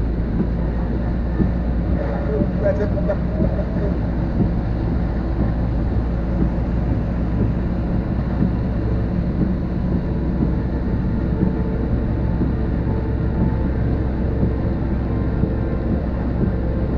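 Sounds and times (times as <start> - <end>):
storm wind buffeting microphone: 0.0 - 16.9.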